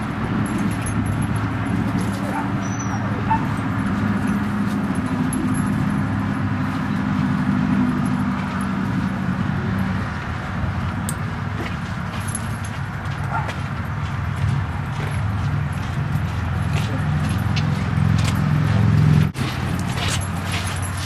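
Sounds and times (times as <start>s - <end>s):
engine hum: 0.0s - 21.0s.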